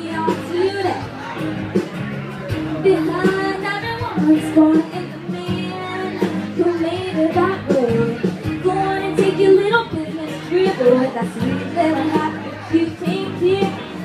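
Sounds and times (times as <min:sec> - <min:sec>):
woman singing country song: 0:00.0 - 0:01.1, 0:02.8 - 0:14.0
instrumental accompaniment: 0:00.0 - 0:14.0.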